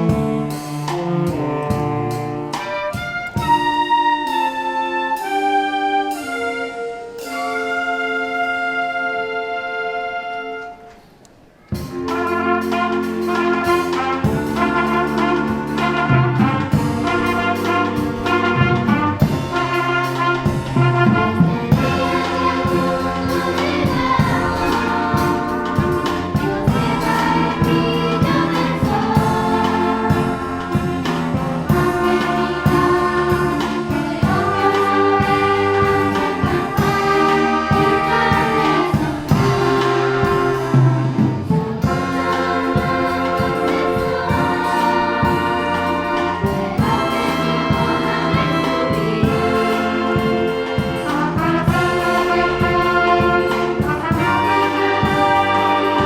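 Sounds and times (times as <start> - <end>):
brass ensemble music: 0.0 - 56.0.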